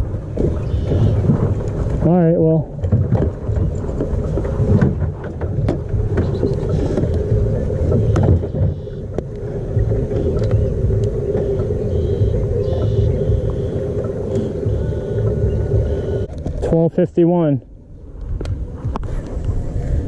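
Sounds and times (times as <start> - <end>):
boat motor humming: 0.0 - 20.0
wind rumble on microphone: 0.0 - 20.0.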